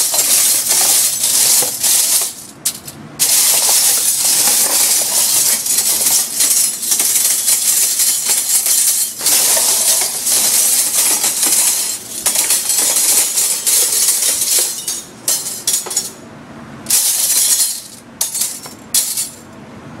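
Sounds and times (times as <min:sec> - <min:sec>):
dishes and glassware clattering: 0:00.0 - 0:16.2.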